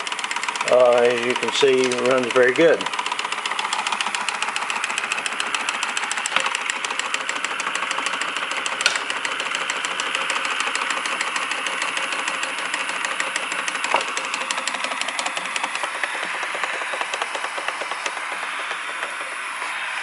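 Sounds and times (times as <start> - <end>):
engine rapid ticking: 0.0 - 20.0.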